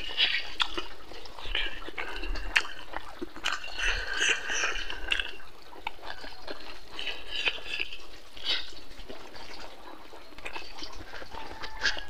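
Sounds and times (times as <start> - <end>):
wet chewing and lip smacks: 0.0 - 12.0.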